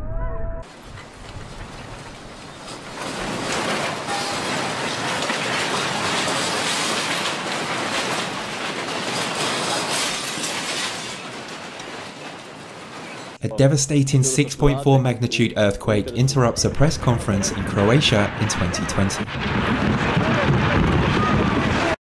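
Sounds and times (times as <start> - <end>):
buildings rattling in earthquake: 0.6 - 13.4, 16.7 - 22.0.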